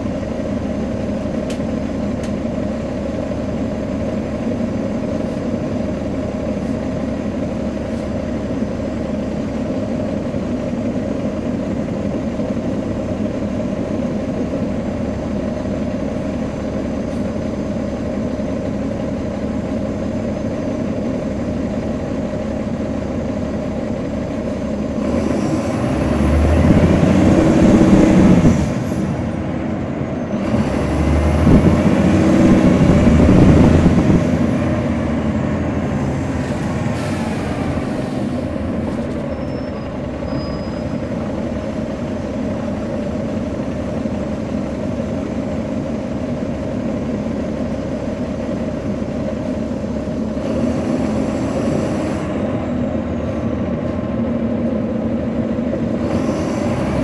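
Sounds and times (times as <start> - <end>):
bus diesel engine: 0.0 - 57.0.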